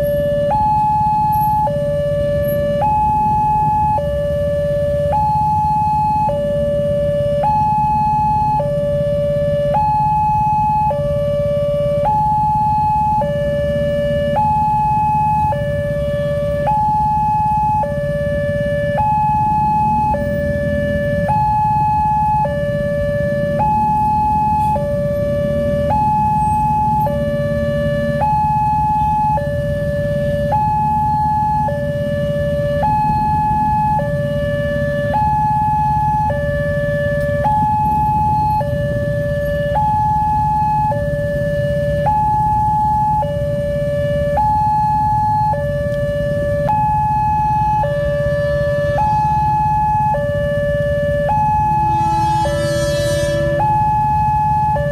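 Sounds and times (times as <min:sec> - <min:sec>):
two-tone level crossing alarm: 0:00.0 - 0:54.9.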